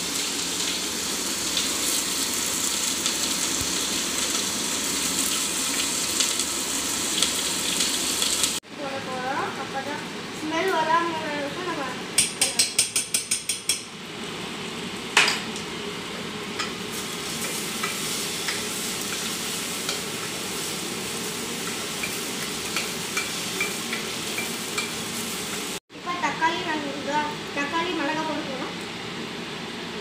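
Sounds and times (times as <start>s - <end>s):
food sizzling in oil: 0.0s - 12.2s, 13.9s - 28.5s.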